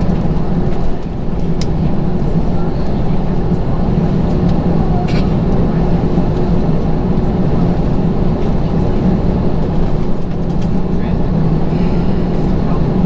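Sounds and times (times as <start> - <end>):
jet engines droning in cabin: 0.0 - 13.0.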